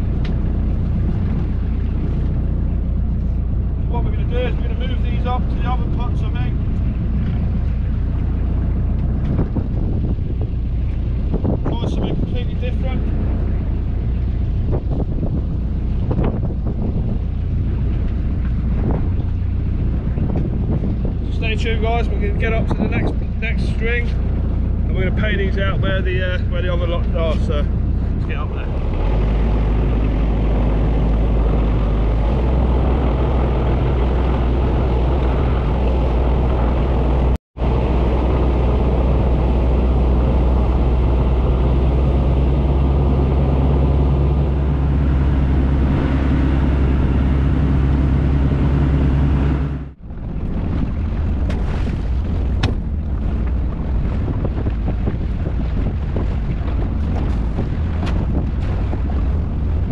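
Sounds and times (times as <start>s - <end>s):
boat engine drone: 0.0s - 59.9s
water around hull: 0.0s - 59.9s
wind on microphone: 0.0s - 59.9s.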